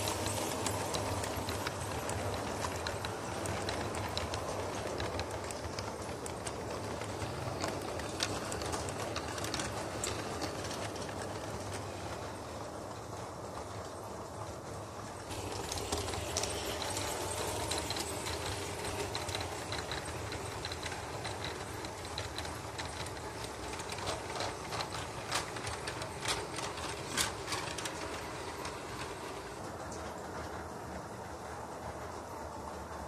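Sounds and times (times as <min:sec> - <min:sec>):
model train whirring and rattling: 0:00.0 - 0:33.0
wheels clicking on track: 0:00.0 - 0:33.0.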